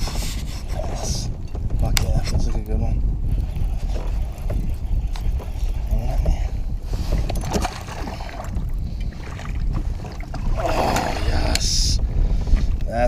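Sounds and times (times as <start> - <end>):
water splashing beside kayak: 0.0 - 12.8
wind rumble on microphone: 0.0 - 13.0.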